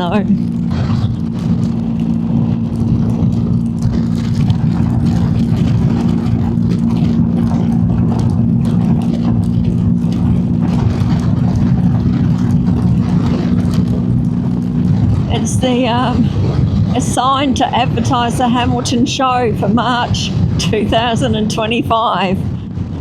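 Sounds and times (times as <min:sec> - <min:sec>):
motorcycle engine cruising: 0:00.0 - 0:23.0
wind and road noise: 0:00.0 - 0:23.0.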